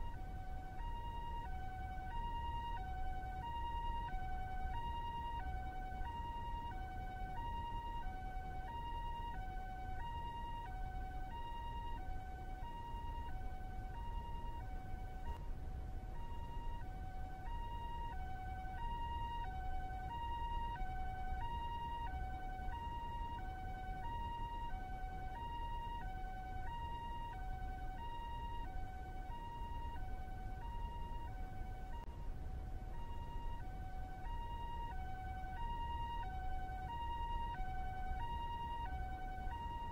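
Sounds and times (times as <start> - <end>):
low steady rumble: 0.0 - 39.9
two-tone ambulance siren: 0.0 - 39.9.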